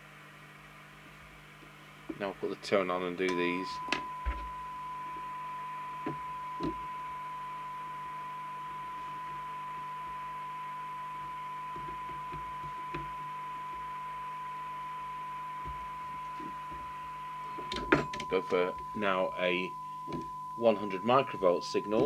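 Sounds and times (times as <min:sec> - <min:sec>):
light radio hiss: 0:00.0 - 0:22.0
steady test tone from radio speaker: 0:02.1 - 0:22.0.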